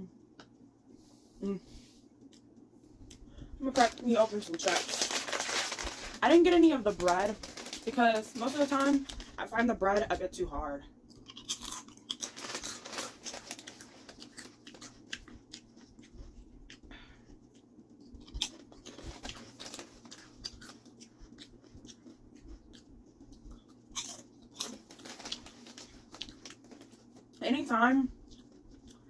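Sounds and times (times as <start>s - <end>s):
person chewing potato chips: 2.2s - 9.4s, 11.1s - 27.4s, 28.2s - 29.0s.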